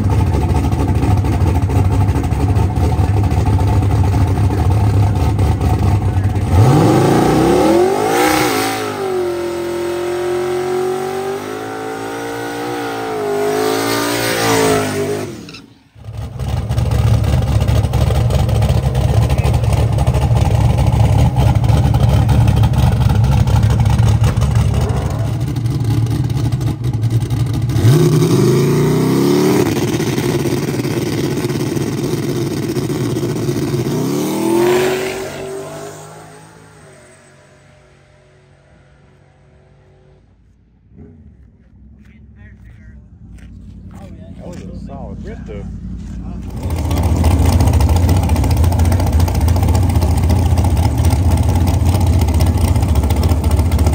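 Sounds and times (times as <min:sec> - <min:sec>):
drag car engine revving: 0:00.0 - 0:53.9.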